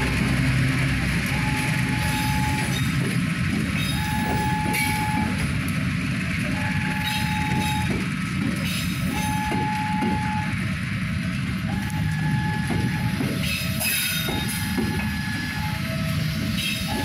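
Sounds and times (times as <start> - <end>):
diesel train engine rumbling: 0.0 - 17.0.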